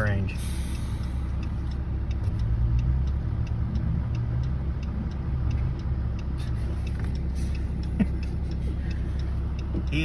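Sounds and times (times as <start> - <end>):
faint regular ticking: 0.0 - 10.0
truck engine rumbling: 0.0 - 10.0.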